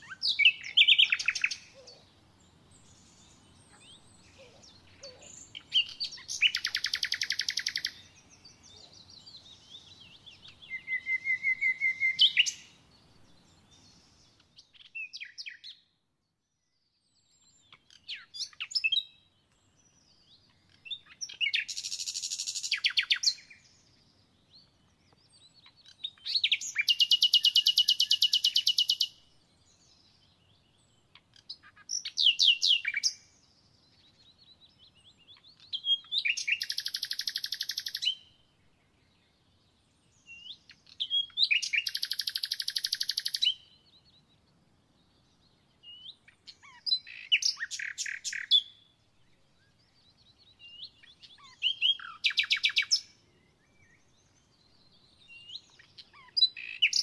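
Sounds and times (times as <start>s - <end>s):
songbird singing trills: 0.0s - 57.0s.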